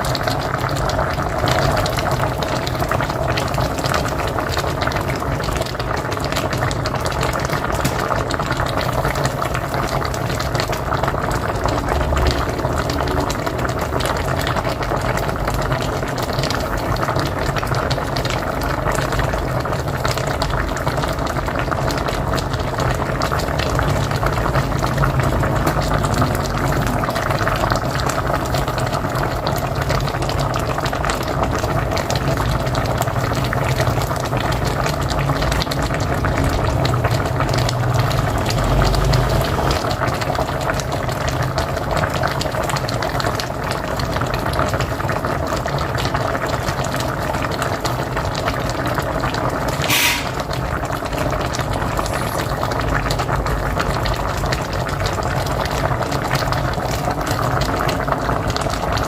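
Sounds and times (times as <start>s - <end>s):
pot boiling and bubbling: 0.0s - 59.0s.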